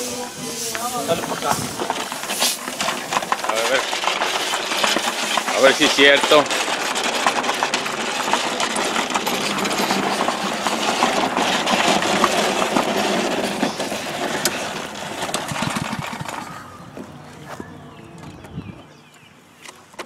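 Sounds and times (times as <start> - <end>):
lawn mower engine running: 0.0 - 20.0
gravel clicks and rattles: 0.6 - 20.0.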